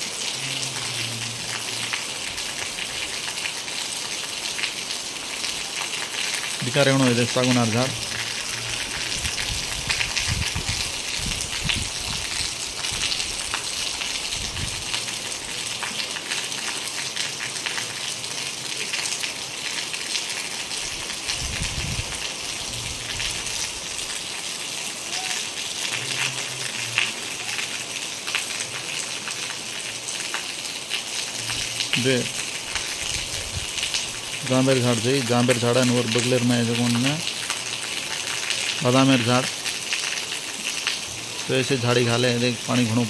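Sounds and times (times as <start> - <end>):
heavy rain on plants: 0.0 - 43.0.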